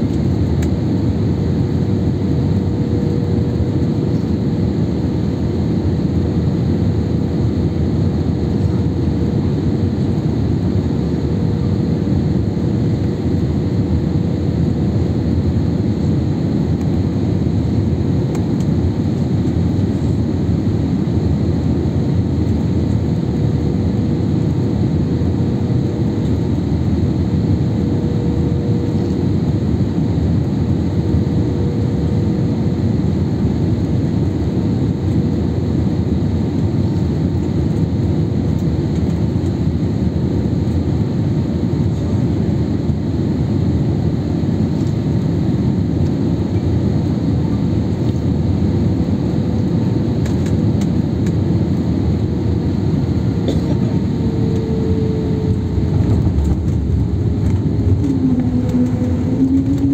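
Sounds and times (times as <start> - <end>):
faint steady hum: 0.0 - 59.9
jet engines and airflow: 0.0 - 59.9.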